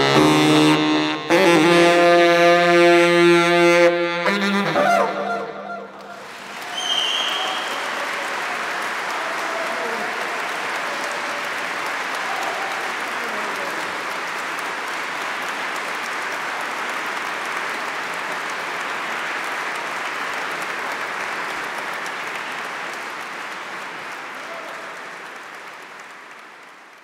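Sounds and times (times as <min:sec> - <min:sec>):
audience applauding: 0:04.3 - 0:27.0.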